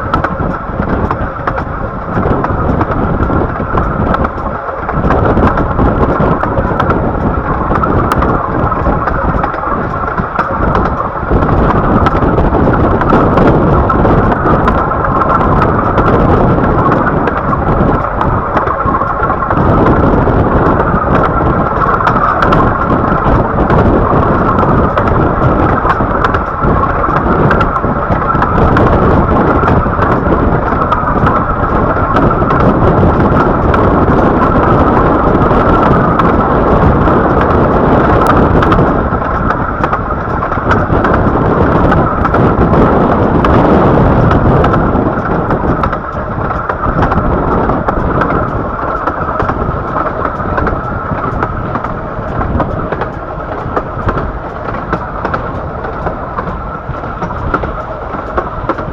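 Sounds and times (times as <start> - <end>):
train rumbling on rails: 0.0 - 58.9
wind noise: 0.0 - 58.9.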